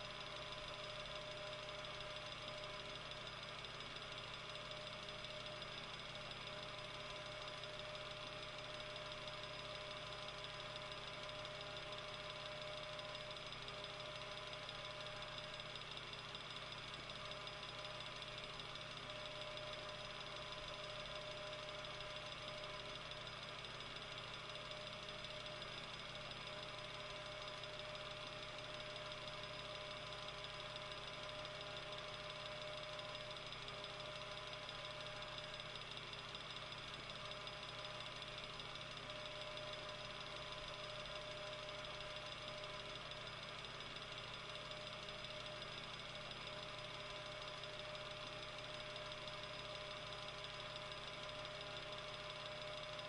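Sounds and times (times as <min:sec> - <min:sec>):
table fan running: 0:00.0 - 0:53.0.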